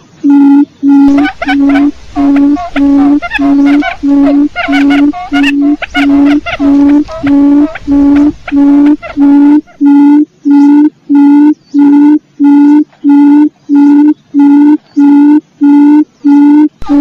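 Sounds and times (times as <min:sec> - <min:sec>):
quail call low hoots: 0:00.3 - 0:17.0.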